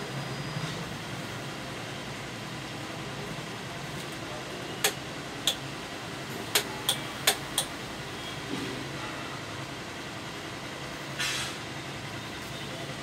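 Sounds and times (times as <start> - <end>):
steady background hum: 0.9 - 13.0.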